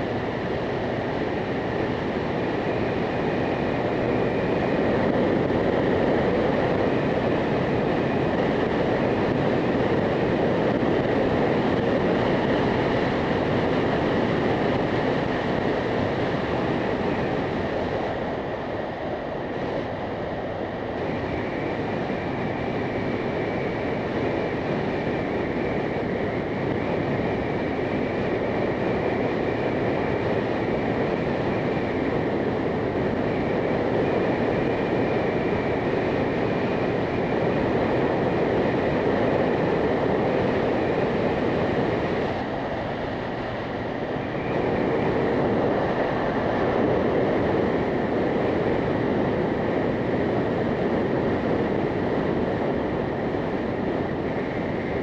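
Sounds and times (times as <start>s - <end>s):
motorcycle road noise: 0.0s - 55.0s
wind rush: 0.0s - 55.0s.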